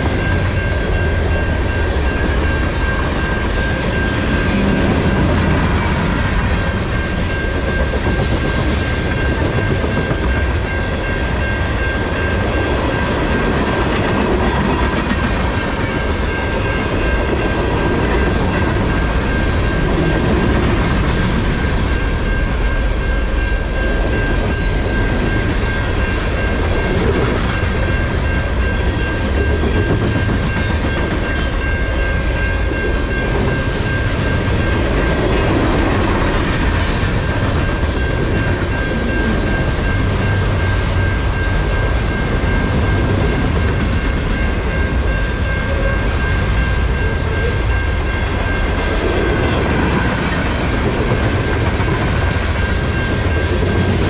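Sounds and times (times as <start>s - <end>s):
freight train rumbling past: 0.0s - 54.0s
level-crossing bell ringing: 0.0s - 54.0s
train wheel clacks: 0.0s - 54.0s.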